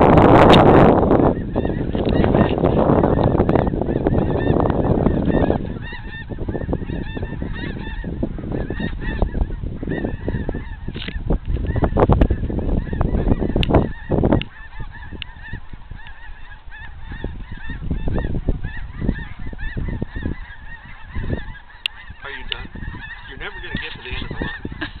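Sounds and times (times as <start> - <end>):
geese honking: 0.0 - 25.0.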